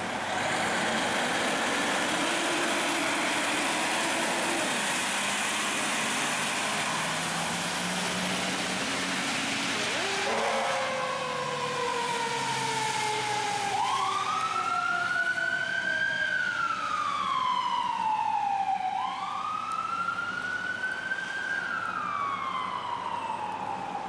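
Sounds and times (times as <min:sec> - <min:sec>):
wailing siren: 0:00.0 - 0:24.0
siren sliding down in pitch: 0:00.6 - 0:24.0.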